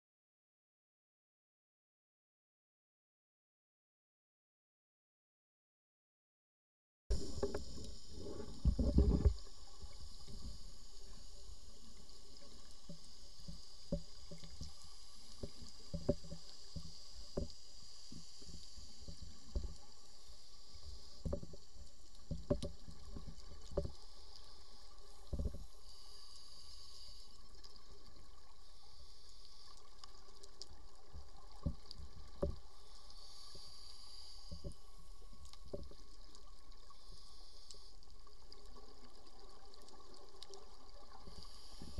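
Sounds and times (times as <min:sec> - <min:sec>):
underwater hiss: 0:07.1 - 0:41.9.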